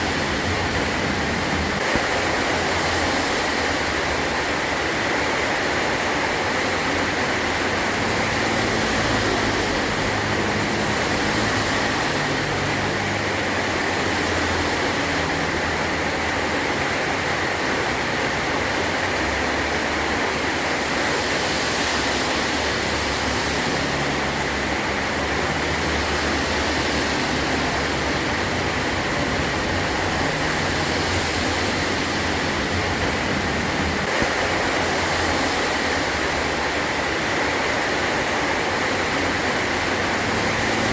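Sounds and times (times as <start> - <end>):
heavy rain on metal roof: 0.0 - 40.9.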